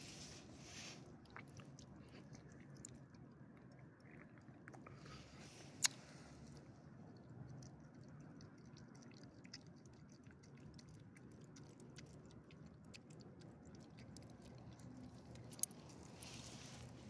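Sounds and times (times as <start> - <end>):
dog chewing wetly: 1.0 - 5.2, 5.9 - 17.0.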